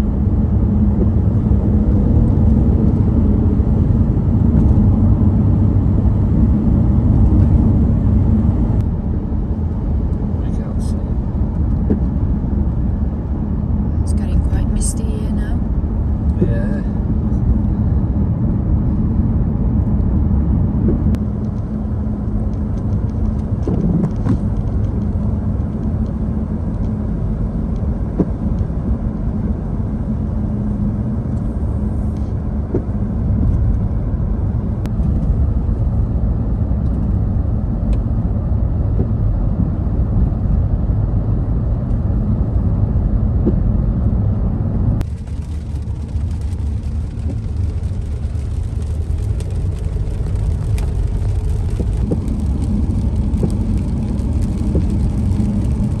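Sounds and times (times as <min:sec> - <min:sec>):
road and engine rumble in car: 0:00.0 - 0:56.0.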